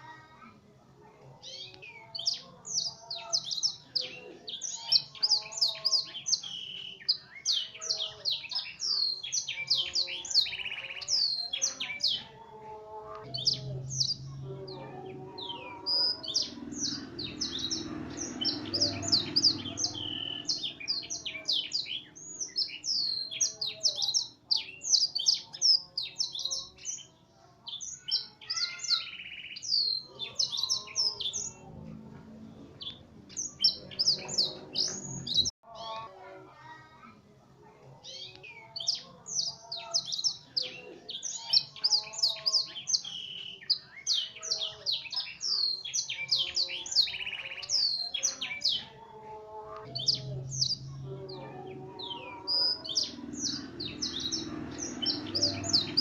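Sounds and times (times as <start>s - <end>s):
canary singing chirps and trills: 0.0s - 56.0s.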